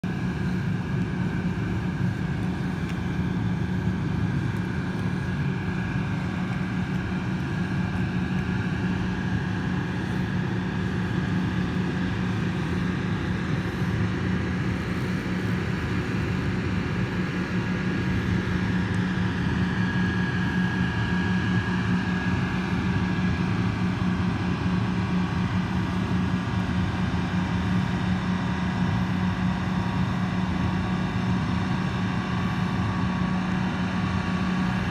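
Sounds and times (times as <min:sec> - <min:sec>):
diesel engines droning: 0:00.0 - 0:34.9.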